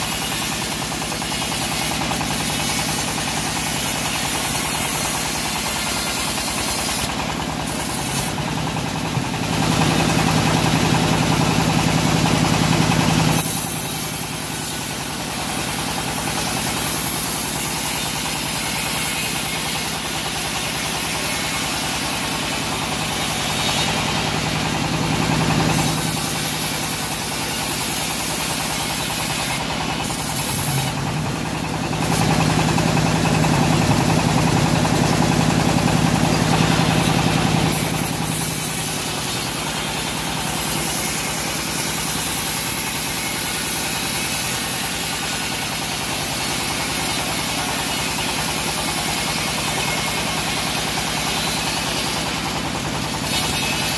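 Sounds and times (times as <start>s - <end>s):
bandsaw mill sawing log: 0.0s - 53.9s.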